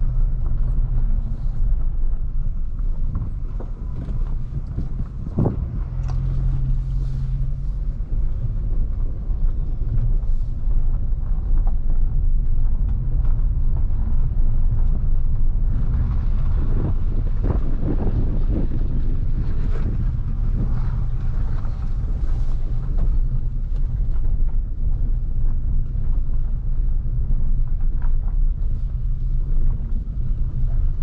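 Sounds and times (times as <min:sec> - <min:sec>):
car driving low rumble: 0:00.0 - 0:31.0.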